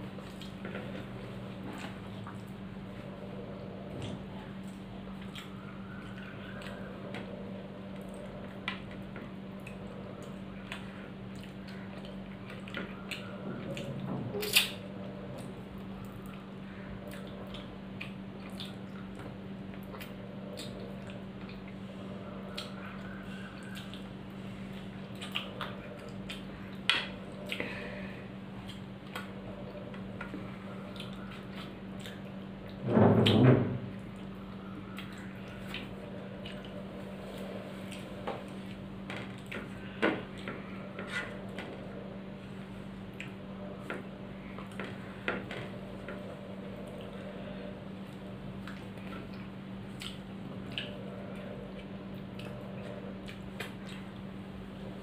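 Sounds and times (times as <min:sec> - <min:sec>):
steady low hum: 0:00.0 - 0:55.0
wet chewing and mouth sounds: 0:00.1 - 0:32.8, 0:33.9 - 0:55.0.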